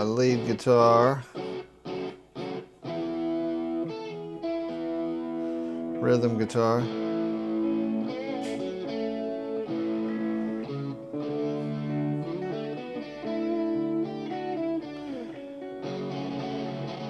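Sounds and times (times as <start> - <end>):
guitar playing held notes: 0.0 - 17.0.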